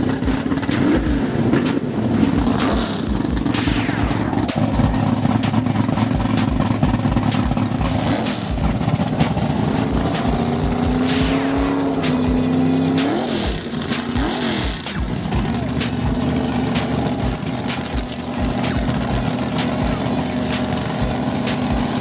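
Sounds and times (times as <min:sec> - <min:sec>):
drag racing car engine running: 0:00.0 - 0:22.0.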